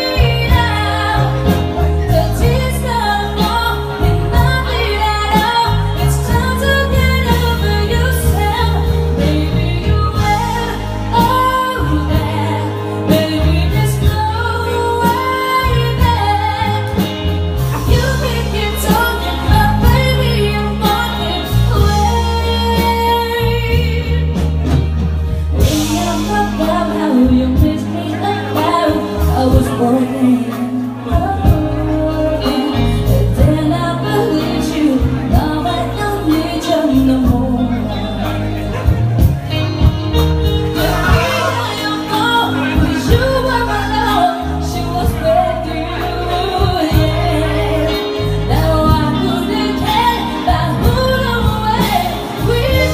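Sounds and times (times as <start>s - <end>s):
musical accompaniment with bass: 0.0s - 52.9s
woman singing a slow ballad: 0.0s - 52.9s.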